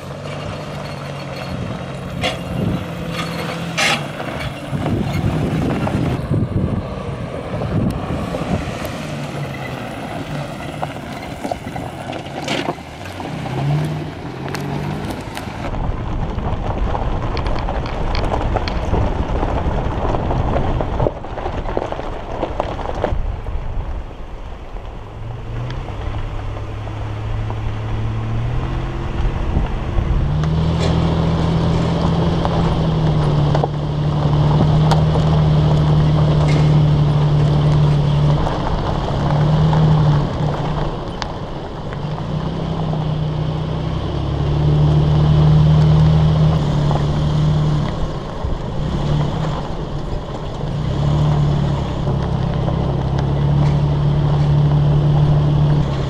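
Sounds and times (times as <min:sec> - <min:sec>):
car engine running: 0:00.0 - 0:56.0
tyres rolling over gravel: 0:00.0 - 0:56.0
wind noise on microphone: 0:00.4 - 0:56.0.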